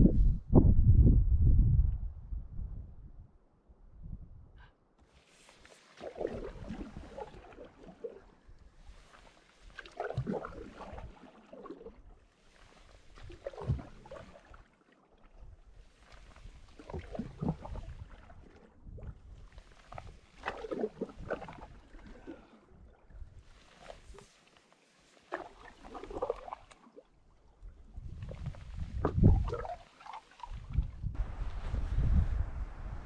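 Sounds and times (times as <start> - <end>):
canoe paddle splashing water: 5.0 - 31.7.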